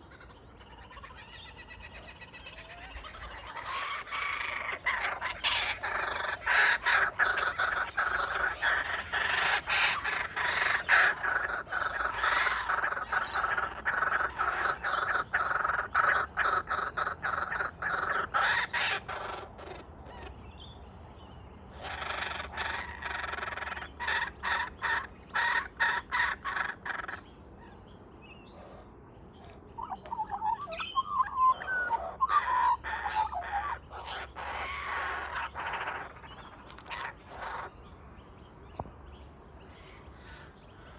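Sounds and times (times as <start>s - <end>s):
kookaburras calling: 0.0s - 40.9s.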